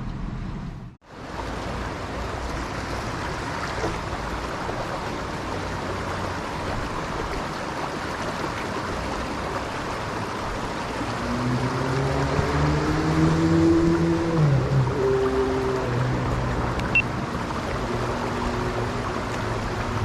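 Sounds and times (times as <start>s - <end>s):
stream water rushing: 1.0s - 20.0s.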